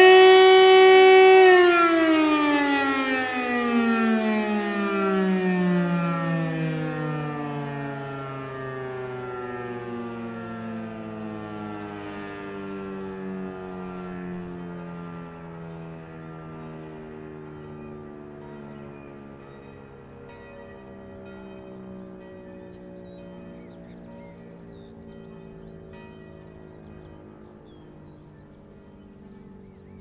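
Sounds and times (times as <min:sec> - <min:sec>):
electric motor siren winding down: 0:00.0 - 0:30.0.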